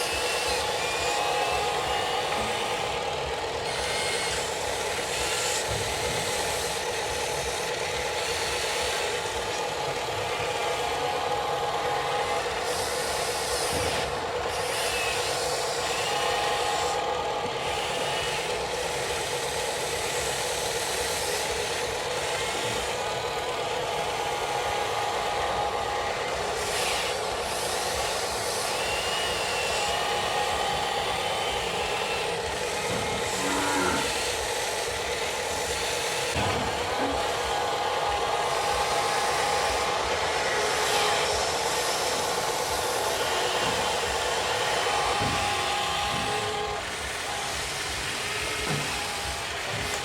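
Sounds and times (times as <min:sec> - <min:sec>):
small electric motors whining: 0:00.0 - 0:50.0.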